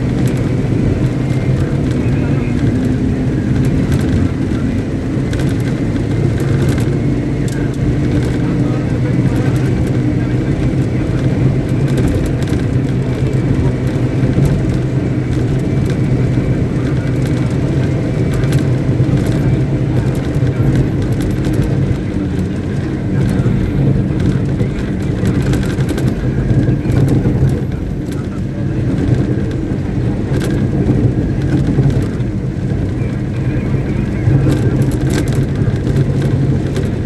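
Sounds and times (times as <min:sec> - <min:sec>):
diesel engine running steadily: 0:00.0 - 0:37.0.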